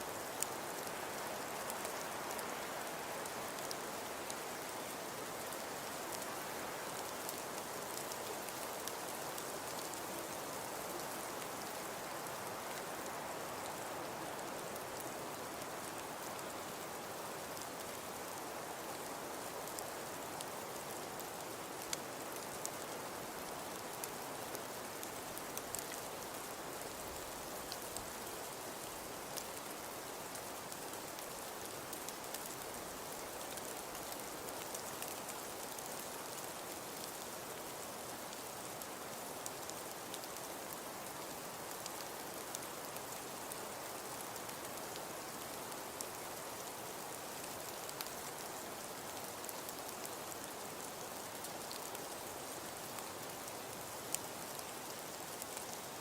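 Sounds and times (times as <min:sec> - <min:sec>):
soft hiss of snowfall: 0:00.0 - 0:56.0
light ticks of snow: 0:00.1 - 0:56.0.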